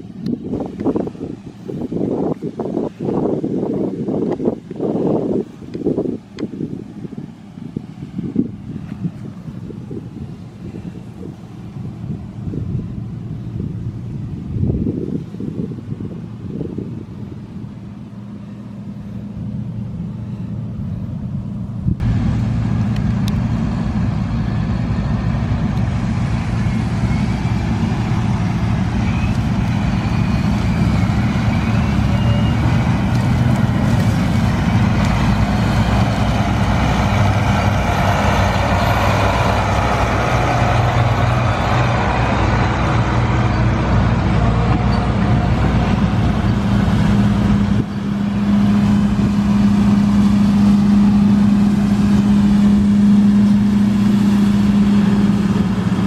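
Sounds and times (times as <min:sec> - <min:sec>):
diesel farm machinery running: 0:00.0 - 0:56.0.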